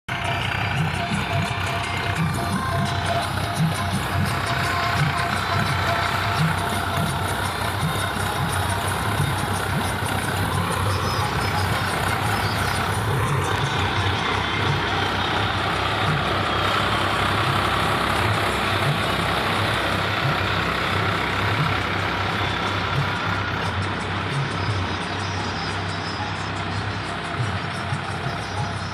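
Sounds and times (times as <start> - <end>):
diesel tractor engine running: 0.0 - 28.9.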